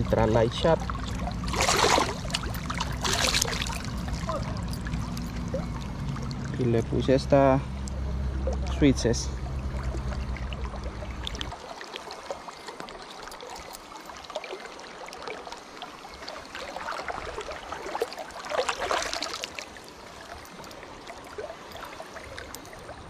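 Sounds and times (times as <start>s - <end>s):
river water rushing: 0.8s - 6.5s, 9.3s - 23.0s.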